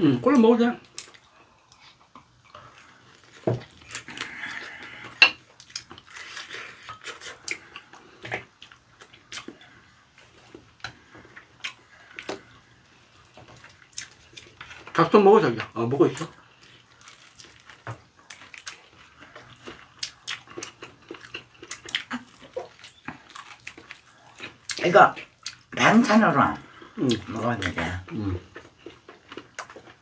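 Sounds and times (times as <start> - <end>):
chewing fried chicken: 0.8 - 30.0.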